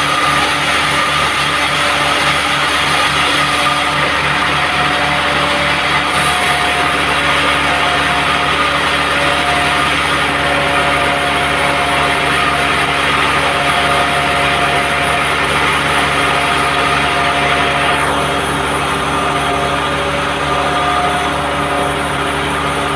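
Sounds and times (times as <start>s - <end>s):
band sawmill drone: 0.0s - 22.9s.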